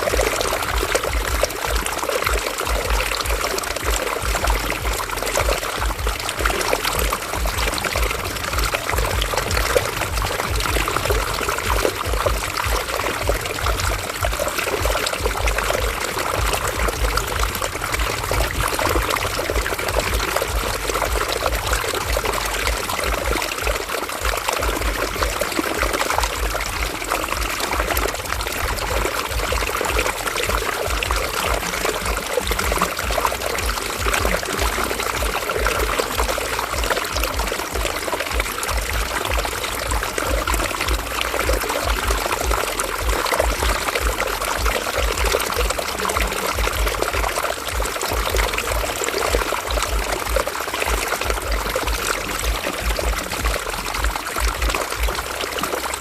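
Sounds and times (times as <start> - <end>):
river water flowing and splashing: 0.0 - 56.0.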